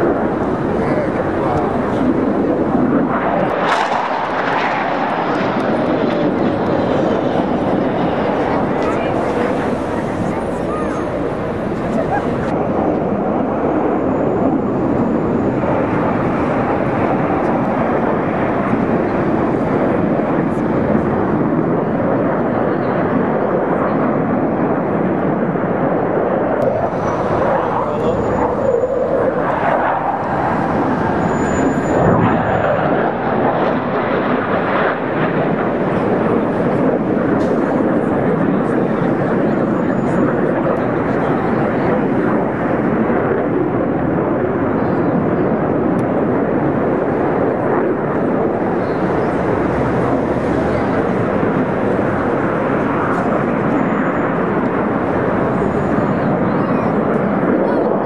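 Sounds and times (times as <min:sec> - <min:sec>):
jet engines roaring overhead: 0:00.0 - 0:58.0.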